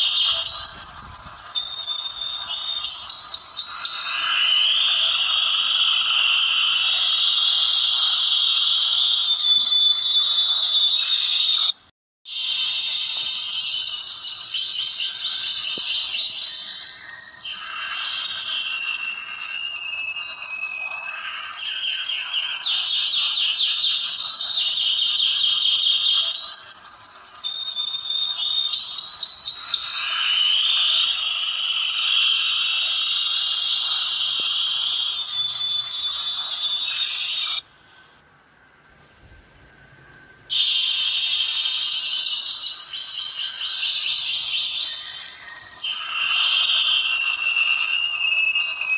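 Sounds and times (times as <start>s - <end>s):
finches chirping: 0.0s - 11.7s, 12.4s - 38.0s, 40.5s - 48.9s.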